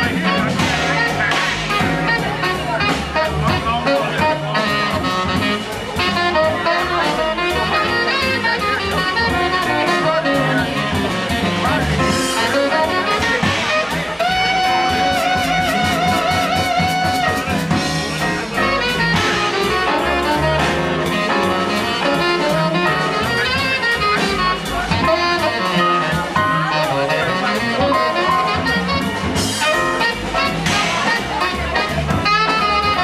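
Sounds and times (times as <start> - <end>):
acoustic bass: 0.0 - 33.0
drum kit with cymbals: 0.0 - 33.0
piano: 0.0 - 33.0
saxophone: 0.0 - 33.0
trumpet: 0.0 - 33.0.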